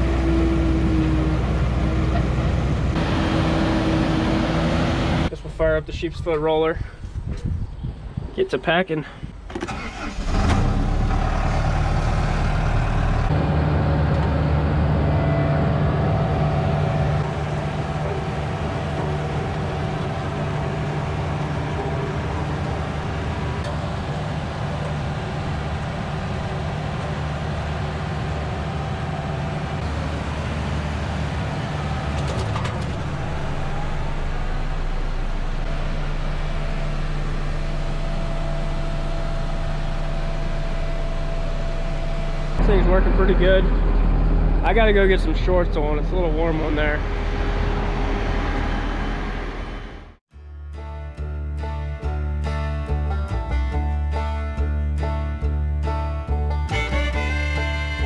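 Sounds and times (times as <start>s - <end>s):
roller engine running: 0.0s - 5.6s, 9.7s - 58.0s.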